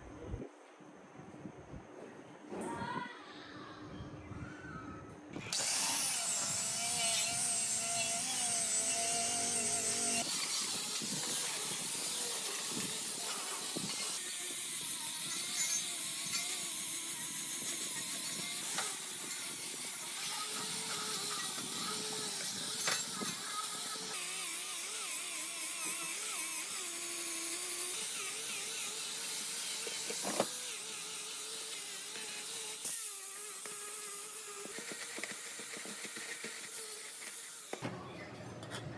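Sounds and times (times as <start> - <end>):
electric power tool motor running: 5.4 - 37.8.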